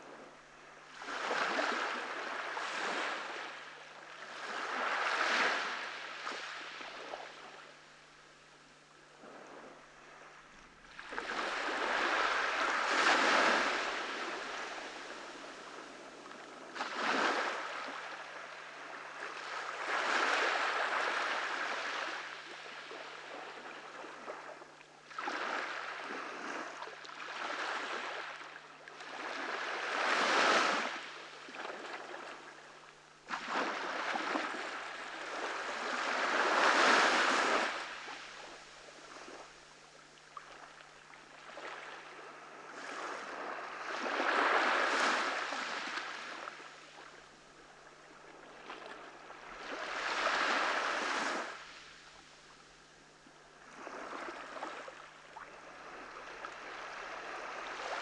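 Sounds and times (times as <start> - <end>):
ocean waves breaking on beach: 0.9 - 7.7, 9.2 - 24.5, 25.1 - 32.6, 33.2 - 47.2, 47.9 - 52.1, 53.6 - 58.0.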